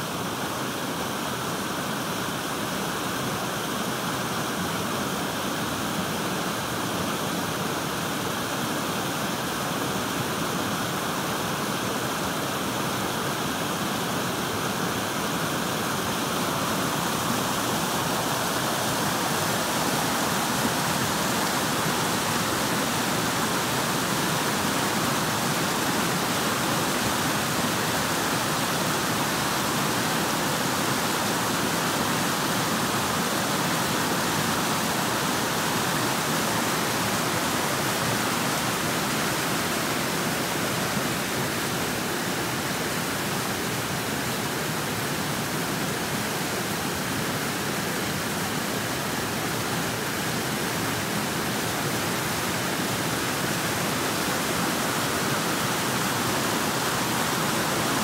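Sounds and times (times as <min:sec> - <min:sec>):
stream rushing over boulders: 0:00.0 - 0:58.0.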